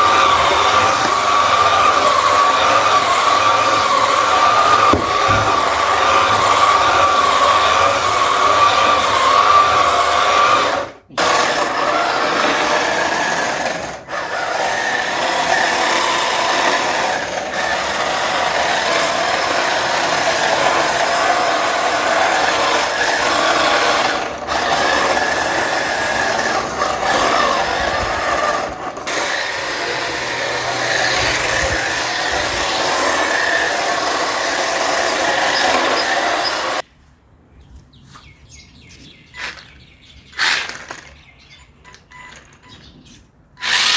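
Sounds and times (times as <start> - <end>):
electric motor whining: 0.0 - 36.8, 43.6 - 43.9.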